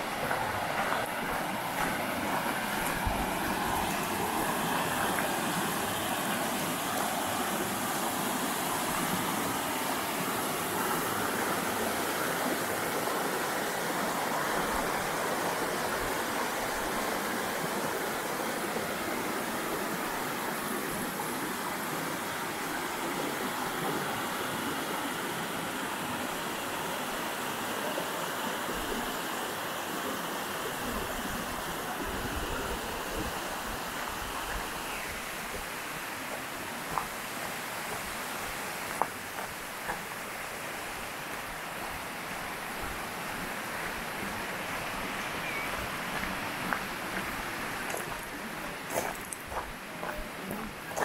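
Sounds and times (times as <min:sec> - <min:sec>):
stream rushing over rocks: 0:00.0 - 0:51.0.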